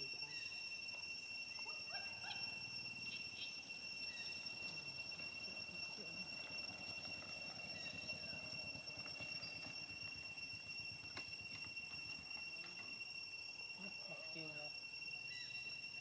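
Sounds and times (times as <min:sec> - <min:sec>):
steady high-pitched whine: 0:00.0 - 0:16.0.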